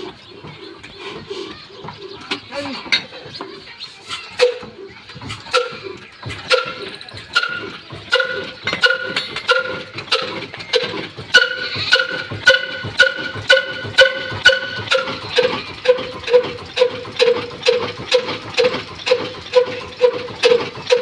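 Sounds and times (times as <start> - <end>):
diesel engine exhaust beats: 0.0 - 21.0.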